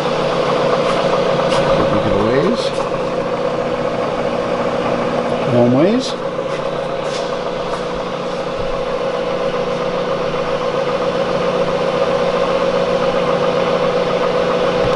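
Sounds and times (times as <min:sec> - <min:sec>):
mill spindle motor humming: 0:00.0 - 0:14.9.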